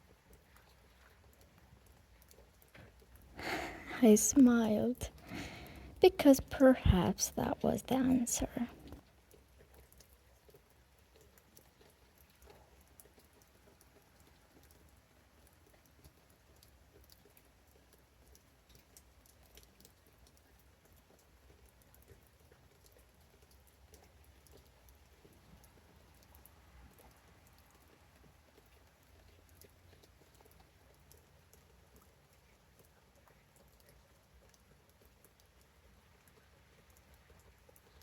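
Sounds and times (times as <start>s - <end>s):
light rain pattering: 0.0s - 38.0s.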